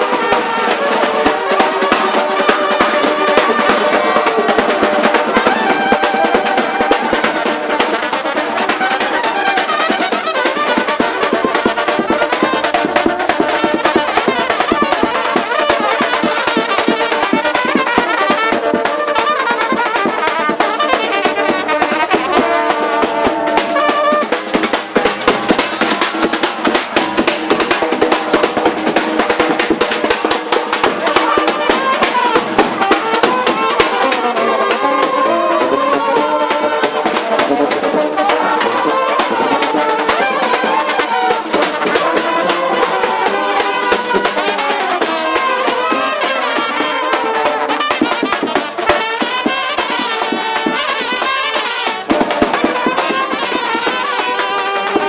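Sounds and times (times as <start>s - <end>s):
steady drum beat: 0.0s - 55.0s
trumpets playing melody: 0.0s - 55.0s.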